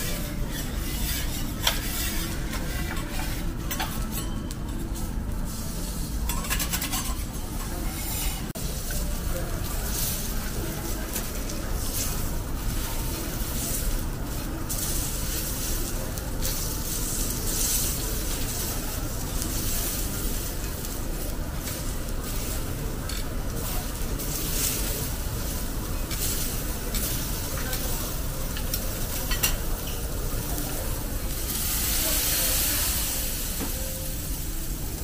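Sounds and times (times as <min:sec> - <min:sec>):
meat sizzling on a griddle: 0:05.5 - 0:06.9, 0:08.0 - 0:35.0.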